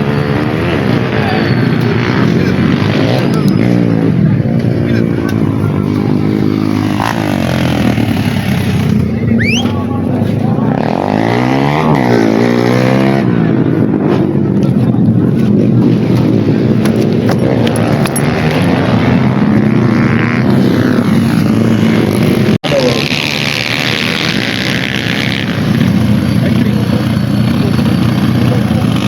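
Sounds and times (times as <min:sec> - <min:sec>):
dirt bike passing by: 0:00.0 - 0:09.6, 0:10.5 - 0:14.5, 0:15.5 - 0:29.0
dirt bike engines revving: 0:00.0 - 0:29.0.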